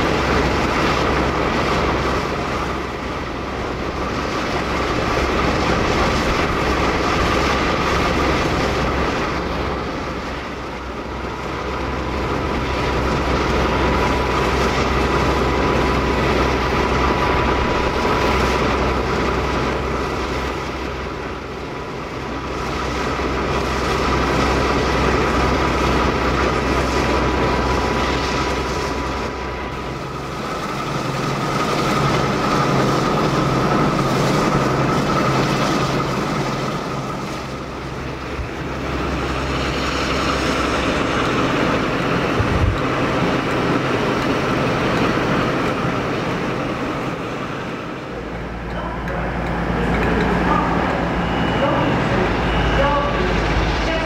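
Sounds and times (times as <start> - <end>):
diesel locomotives idling: 0.0 - 54.0.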